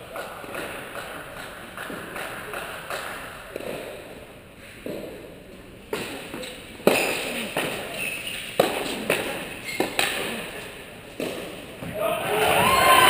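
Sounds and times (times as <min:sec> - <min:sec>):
racket striking tennis ball: 0:00.1 - 0:04.2, 0:04.8 - 0:12.0
tennis ball bouncing: 0:00.1 - 0:12.0.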